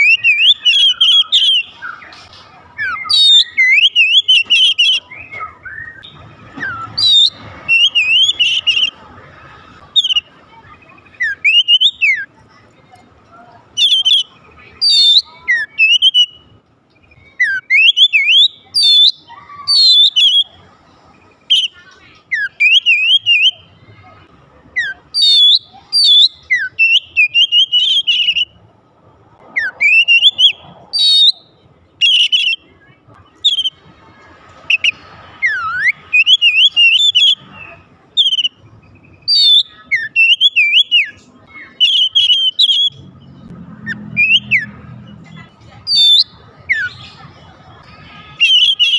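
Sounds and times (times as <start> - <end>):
bird singing whistled song: 0.0 - 2.2, 2.8 - 9.0, 10.0 - 12.3, 13.8 - 20.6, 21.4 - 23.7, 24.8 - 28.6, 29.6 - 33.8, 34.7 - 44.8, 45.9 - 47.3, 48.0 - 48.9.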